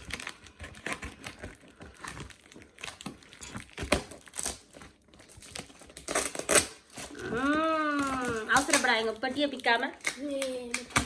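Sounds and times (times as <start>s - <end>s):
parcel wrapping tearing: 0.0s - 11.0s.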